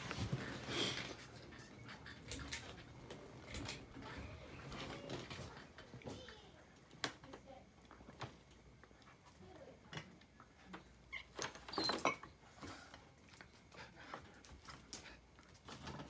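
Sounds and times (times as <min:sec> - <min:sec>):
paws tapping and scuffling: 0:00.0 - 0:11.5, 0:12.6 - 0:16.0.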